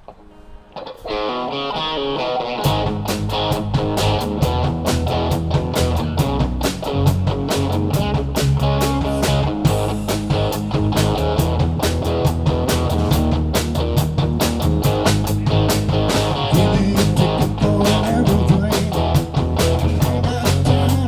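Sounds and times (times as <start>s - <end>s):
live band playing: 0.6s - 21.0s
drums keeping steady beat: 2.6s - 21.0s.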